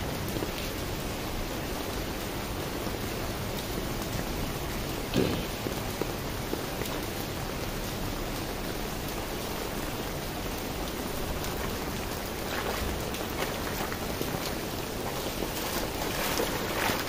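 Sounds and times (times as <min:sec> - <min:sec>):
steady rain falling: 0:00.0 - 0:17.0
runoff rushing into drain: 0:02.6 - 0:17.0.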